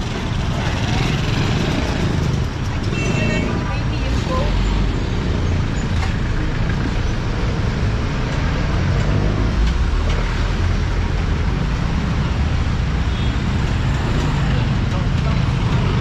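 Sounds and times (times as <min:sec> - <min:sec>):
motorcycles passing: 0:00.0 - 0:16.0.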